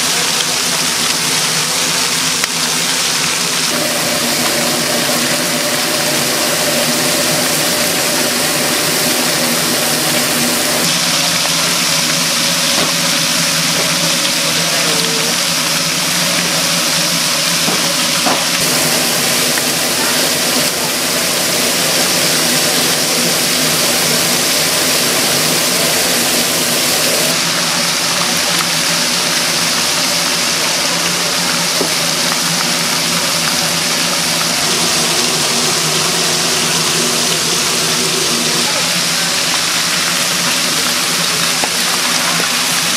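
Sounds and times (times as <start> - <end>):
mechanical hum: 0.0 - 42.9.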